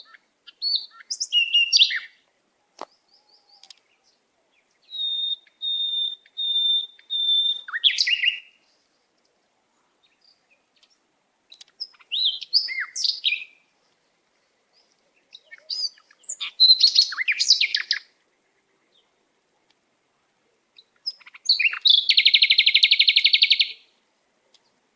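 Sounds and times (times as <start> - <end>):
songbird singing: 0.0 - 24.9.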